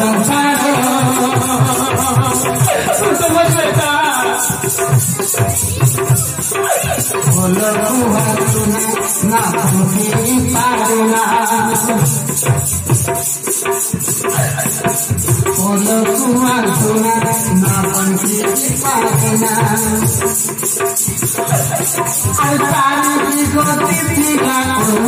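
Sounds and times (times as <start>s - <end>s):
ticking percussion beat: 0.0s - 25.0s.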